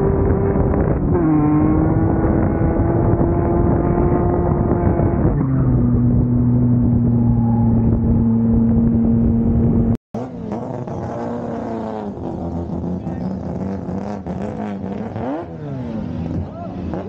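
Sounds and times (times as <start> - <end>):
car engine revving: 0.0 - 17.0
drift car engine at steady revs: 0.0 - 17.0.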